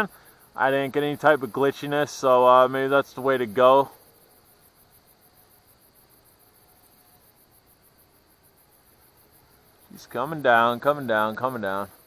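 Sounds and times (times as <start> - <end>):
faint crickets chirping: 0.0 - 12.0.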